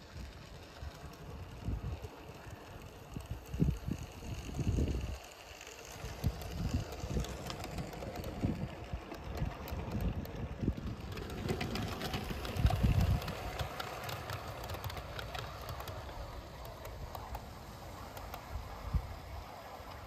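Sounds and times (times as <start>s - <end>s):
model train wheels ticking: 0.0s - 20.0s
wind buffeting microphone: 0.2s - 5.3s, 5.9s - 17.8s.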